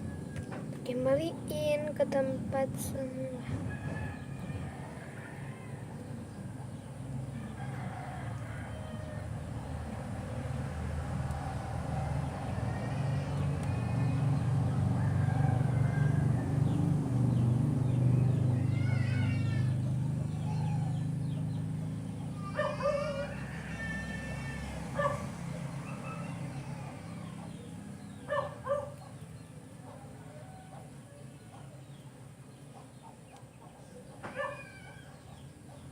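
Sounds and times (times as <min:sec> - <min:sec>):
passing vehicle engine rumble: 0:00.0 - 0:35.9.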